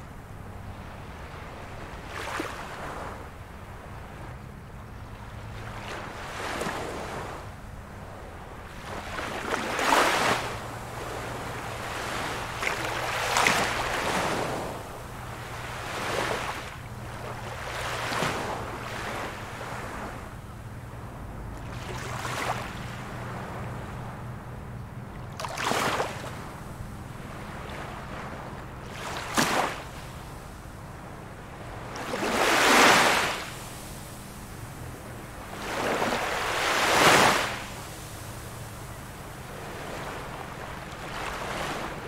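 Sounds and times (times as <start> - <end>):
small ocean waves breaking: 0.0 - 42.0.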